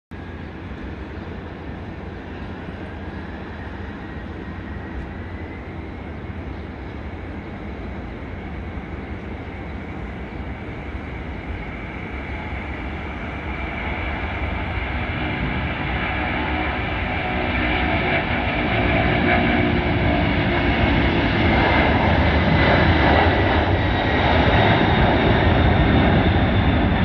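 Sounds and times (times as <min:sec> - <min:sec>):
jet engines on takeoff roll: 0:00.2 - 0:27.0.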